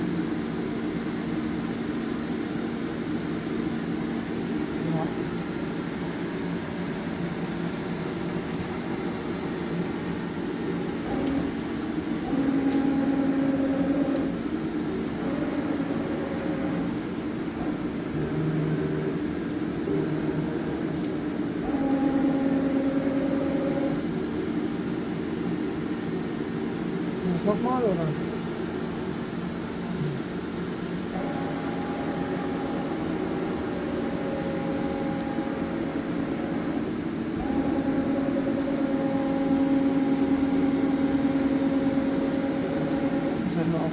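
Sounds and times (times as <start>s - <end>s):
lathe mechanical whine: 0.0s - 43.9s.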